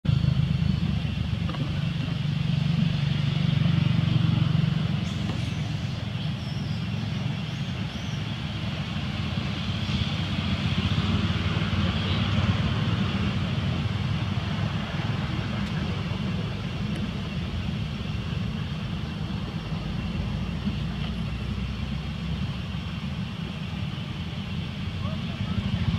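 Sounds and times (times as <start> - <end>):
steady low rumble: 0.0 - 25.9.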